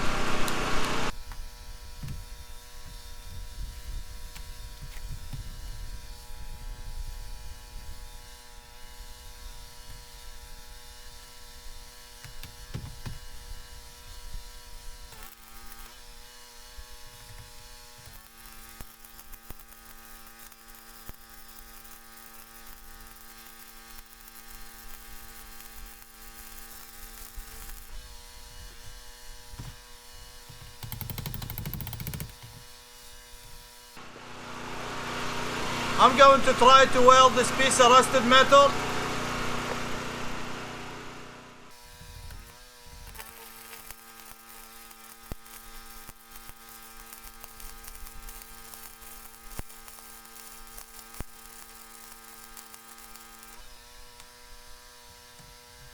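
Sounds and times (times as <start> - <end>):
welding arc crackle: 0.0 - 34.0, 41.7 - 55.9
welding machine humming: 0.0 - 55.9.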